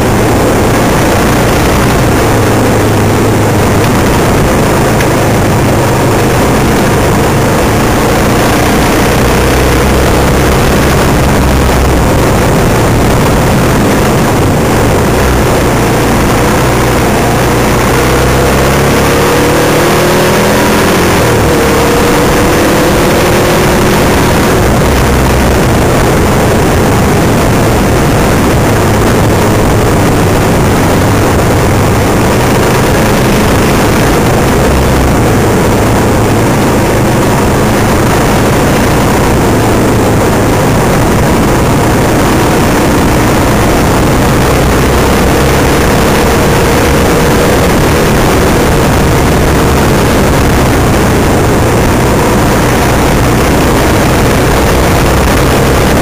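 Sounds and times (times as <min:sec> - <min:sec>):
loud steady rushing noise: 0:00.0 - 0:56.0
off-road vehicle engine running: 0:00.0 - 0:56.0.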